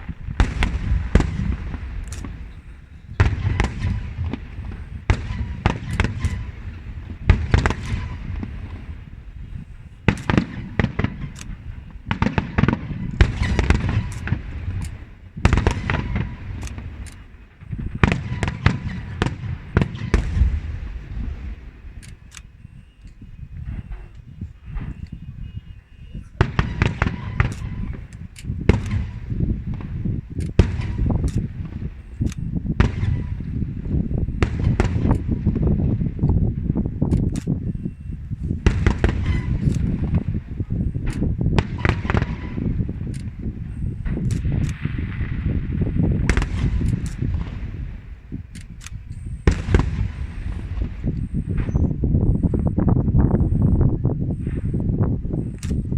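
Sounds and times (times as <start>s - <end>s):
fireworks bangs: 0.0s - 55.9s
low continuous rumble: 0.0s - 55.9s.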